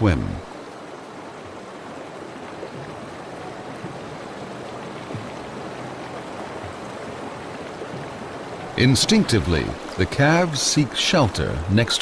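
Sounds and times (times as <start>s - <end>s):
fast-flowing river rushing: 0.0s - 12.0s.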